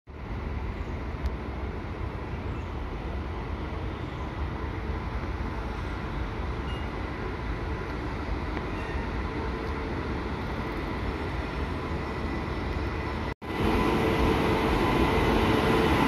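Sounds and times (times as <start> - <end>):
train low rumble: 0.1 - 16.0.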